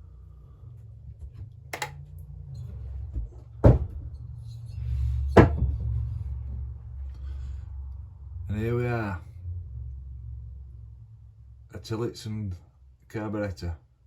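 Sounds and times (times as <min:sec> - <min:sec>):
low handling rumble: 0:00.0 - 0:13.5.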